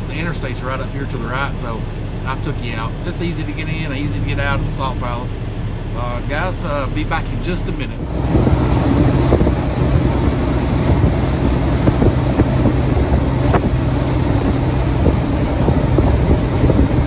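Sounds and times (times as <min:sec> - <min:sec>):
diesel engine drone: 0:00.0 - 0:17.0
road and wind noise: 0:00.0 - 0:17.0.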